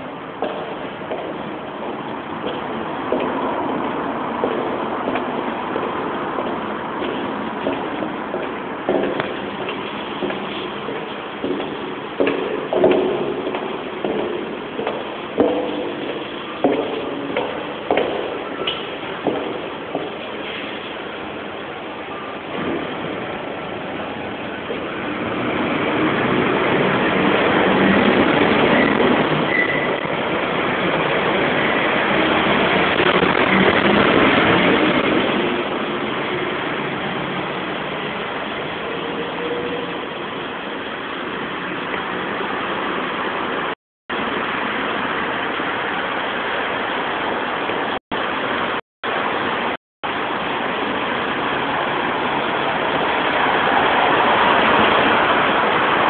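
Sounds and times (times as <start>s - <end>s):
echoing road traffic rumble: 0.0s - 56.0s.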